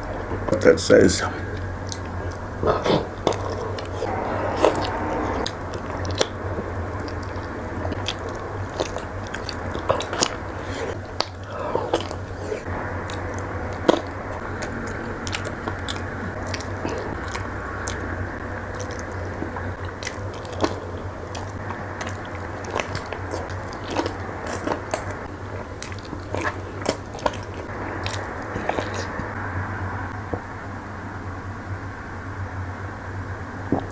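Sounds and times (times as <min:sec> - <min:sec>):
steady low hum: 0:00.0 - 0:33.9
crunchy chewing: 0:01.5 - 0:29.4.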